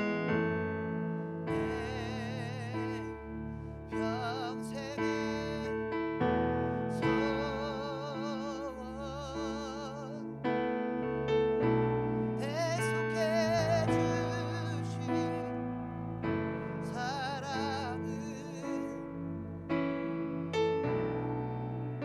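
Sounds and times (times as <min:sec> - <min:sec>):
keyboard sustained chords: 0:00.0 - 0:22.0.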